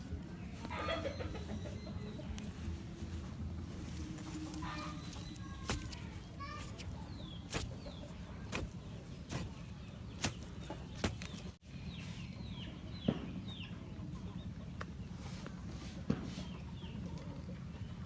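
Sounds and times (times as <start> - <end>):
chickens chirping: 0.0 - 15.2.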